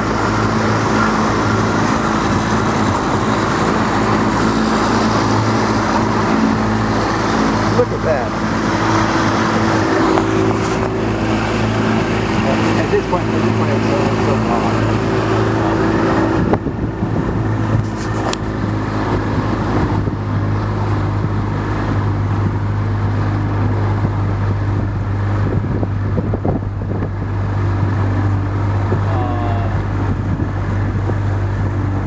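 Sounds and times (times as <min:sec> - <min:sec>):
motorboat engine humming: 0:00.0 - 0:32.0
wind buffeting microphone: 0:00.0 - 0:32.0.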